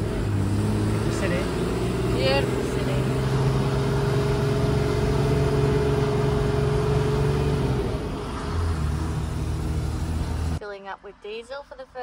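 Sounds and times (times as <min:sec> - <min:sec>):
diesel engine running: 0:00.0 - 0:10.6
road noise: 0:00.0 - 0:12.0.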